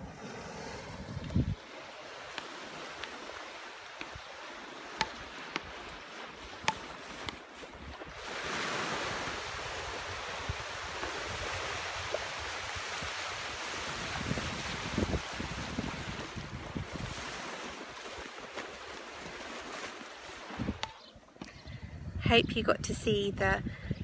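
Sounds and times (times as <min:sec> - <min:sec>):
sea waves washing on shore: 0:00.0 - 0:21.1.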